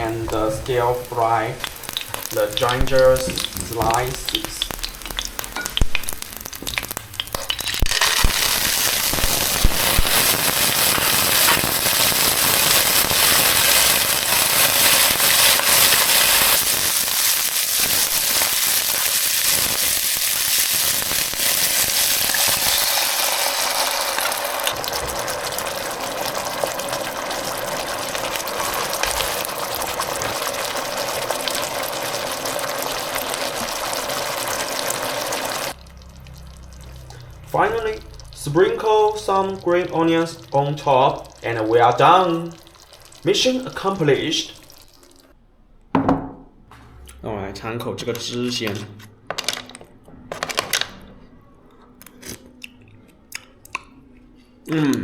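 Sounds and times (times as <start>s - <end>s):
oil sizzling in a wok: 0.0s - 45.2s.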